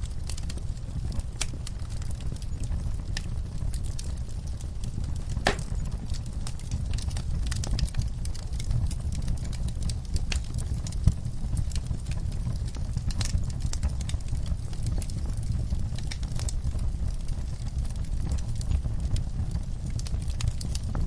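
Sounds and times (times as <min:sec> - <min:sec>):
burning logs crackling and popping: 0:00.0 - 0:21.0
wood fire rumbling: 0:00.0 - 0:21.0.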